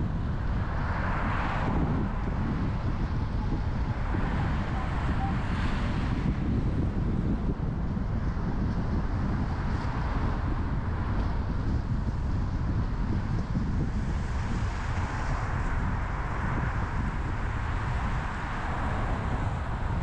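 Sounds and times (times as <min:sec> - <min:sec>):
car road noise rumble: 0:00.0 - 0:20.0.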